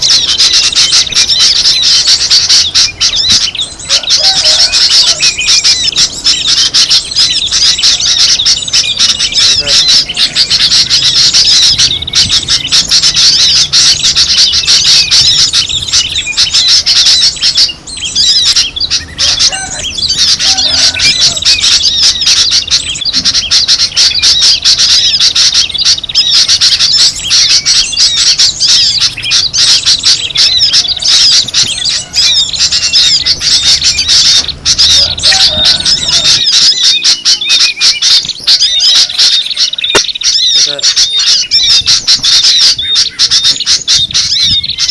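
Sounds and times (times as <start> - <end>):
chorus of songbirds chirping: 0.0 - 44.9.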